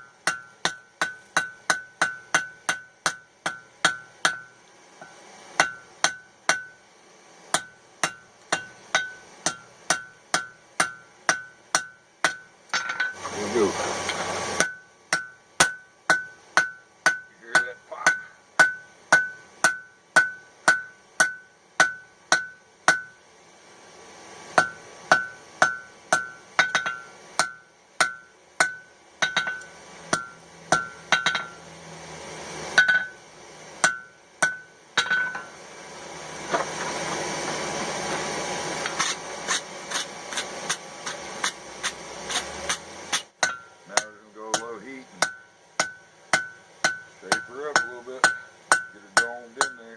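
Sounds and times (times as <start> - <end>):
hammer striking steel on anvil: 0.0 - 6.8, 7.5 - 23.2, 24.6 - 31.6, 32.7 - 33.2, 33.8 - 35.6, 38.8 - 49.9.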